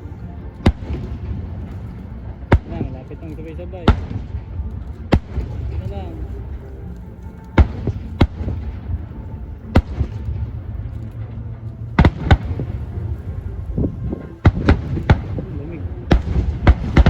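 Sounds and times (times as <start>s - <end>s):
steady low rumble: 0.0s - 17.0s
fireworks bangs: 0.6s - 6.6s, 7.5s - 11.2s, 12.0s - 17.0s.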